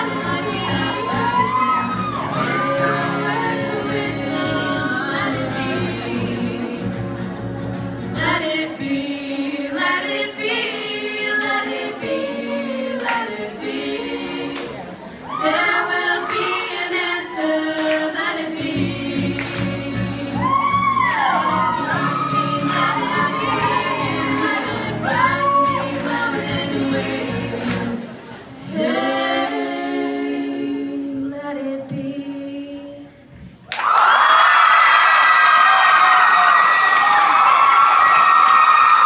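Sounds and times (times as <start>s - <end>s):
women singing in parts: 0.0s - 7.3s, 8.0s - 33.3s.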